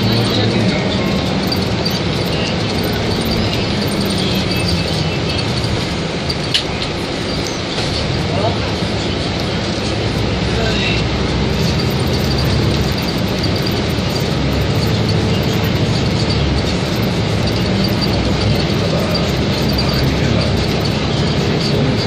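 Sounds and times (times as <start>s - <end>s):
bus engine and road rumble: 0.0s - 22.0s
light rattles: 0.0s - 22.0s.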